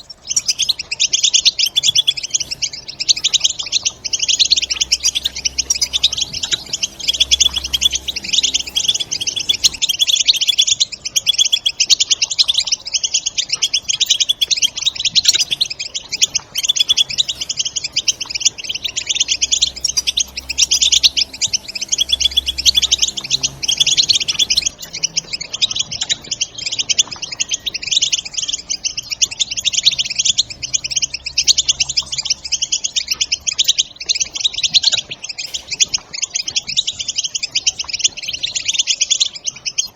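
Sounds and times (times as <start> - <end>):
finches twittering: 0.0 - 39.9
soft background music: 0.3 - 39.0.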